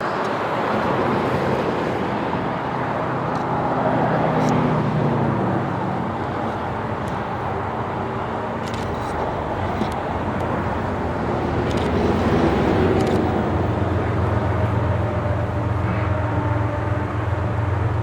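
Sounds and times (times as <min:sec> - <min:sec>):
passing vehicle engine and tyres: 0:00.0 - 0:18.0
steady outdoor hum: 0:00.0 - 0:18.0.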